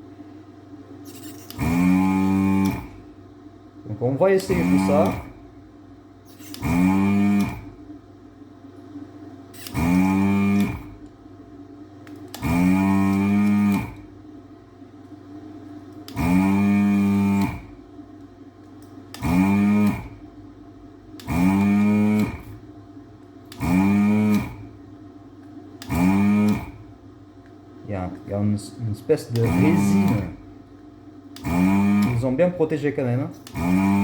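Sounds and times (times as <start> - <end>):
vacuum pump humming: 0.0 - 34.0.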